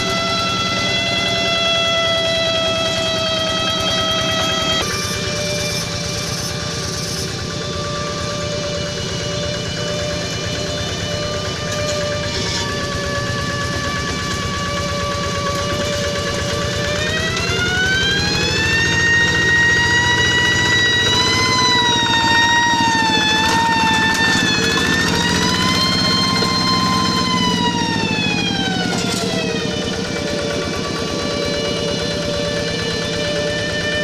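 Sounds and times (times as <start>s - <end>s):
tractor engine with high whine: 0.0s - 34.0s.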